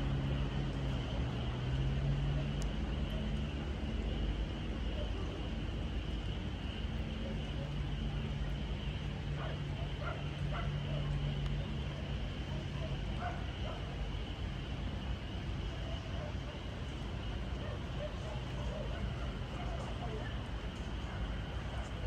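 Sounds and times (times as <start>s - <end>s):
low rumble and hum: 0.0s - 22.0s.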